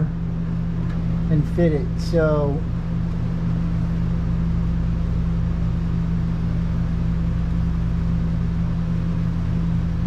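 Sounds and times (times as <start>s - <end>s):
electric machine hum: 0.0s - 10.0s.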